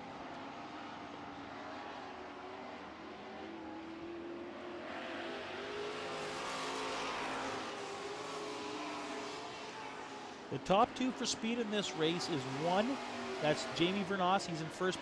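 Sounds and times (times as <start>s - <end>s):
truck engines racing: 0.0s - 15.0s.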